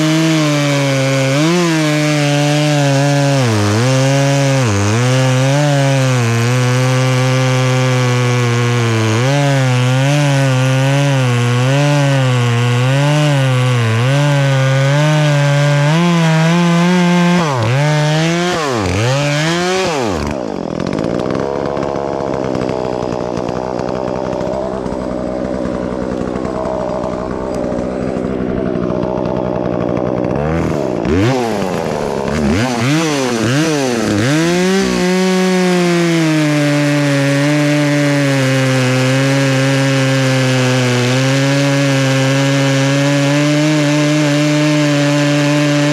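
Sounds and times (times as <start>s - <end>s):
chainsaw cutting log: 0.0s - 45.9s.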